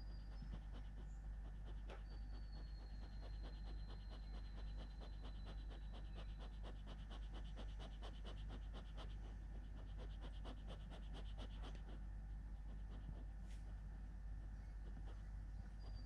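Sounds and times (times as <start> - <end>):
dog panting fast: 0.0 - 12.0, 12.6 - 13.8, 14.4 - 16.0.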